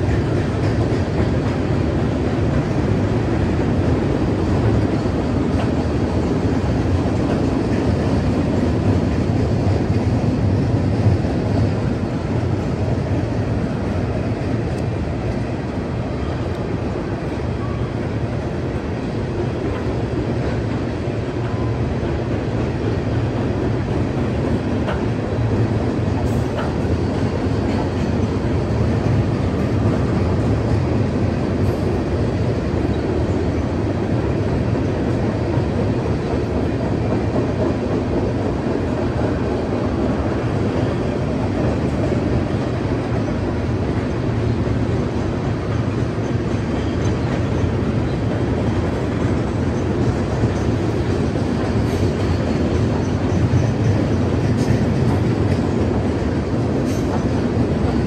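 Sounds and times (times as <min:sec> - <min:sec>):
train wheels rumbling on bridge: 0:00.0 - 0:58.0.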